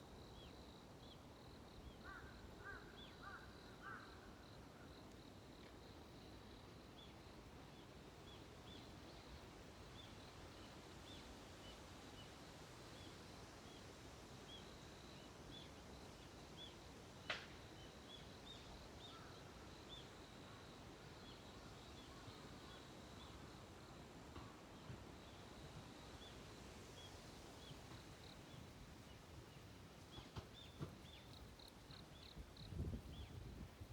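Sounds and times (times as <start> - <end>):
low hiss: 0.0 - 33.9.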